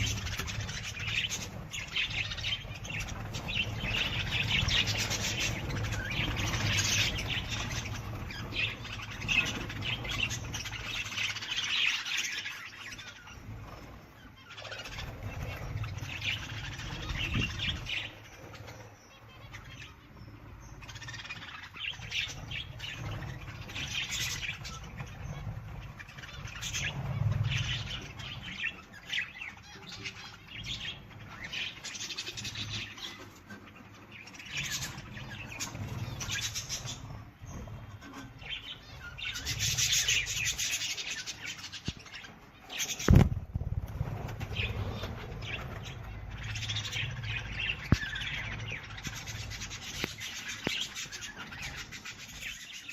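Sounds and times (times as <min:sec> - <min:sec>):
birds chirping and calling: 0:00.0 - 0:52.9.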